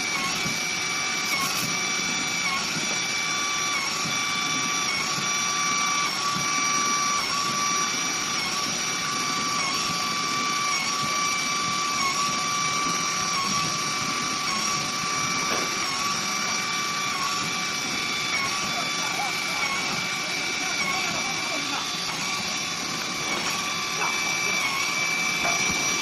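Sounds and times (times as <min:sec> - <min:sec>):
router spindle high whine: 0:00.0 - 0:26.0.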